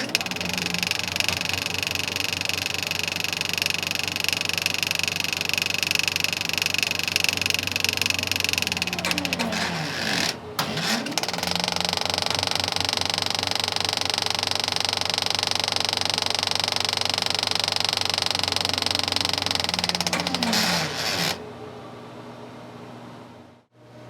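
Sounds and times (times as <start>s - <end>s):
film projector motor: 0.0s - 21.4s.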